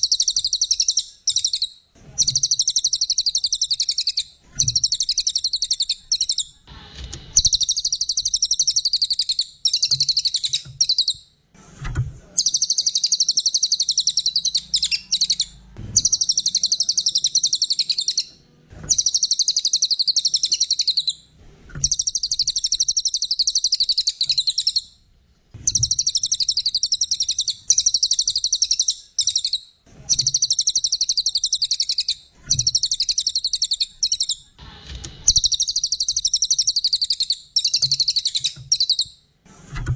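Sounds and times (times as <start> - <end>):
songbird trilling: 0.0 - 6.5, 7.4 - 11.2, 12.4 - 18.3, 18.9 - 21.2, 21.8 - 24.9, 25.7 - 34.4, 35.3 - 39.1.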